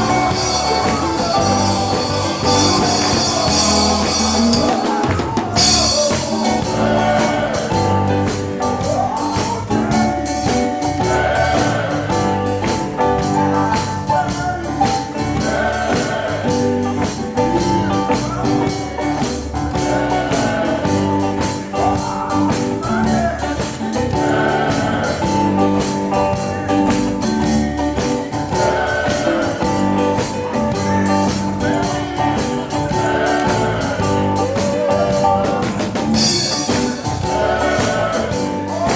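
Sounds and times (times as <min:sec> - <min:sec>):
gospel singing over band: 0:00.0 - 0:38.9
tambourine beats: 0:00.0 - 0:38.9.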